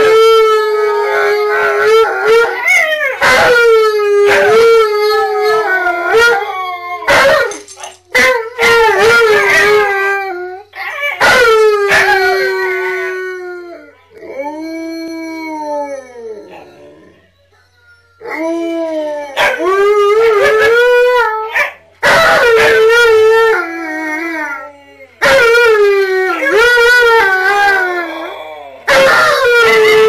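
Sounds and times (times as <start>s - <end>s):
dogs howling: 0.0s - 30.0s.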